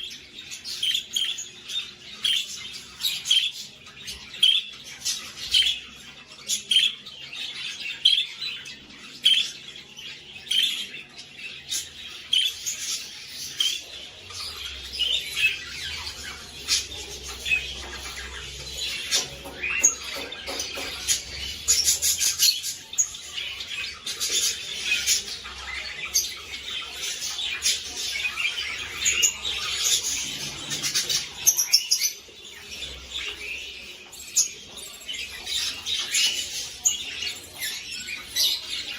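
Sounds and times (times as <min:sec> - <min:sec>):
budgerigars chirping and squawking: 0:00.0 - 0:38.9.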